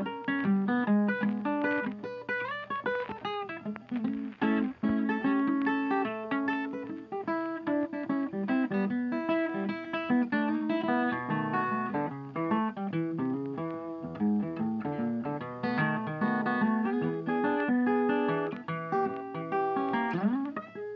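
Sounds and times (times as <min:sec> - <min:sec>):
acoustic guitar plucked notes: 0:00.0 - 0:20.9.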